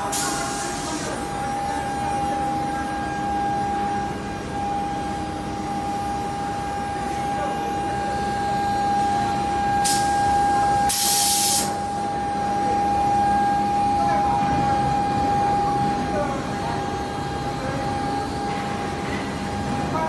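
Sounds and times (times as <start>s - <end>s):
induction furnace whining and humming: 0.0s - 20.0s.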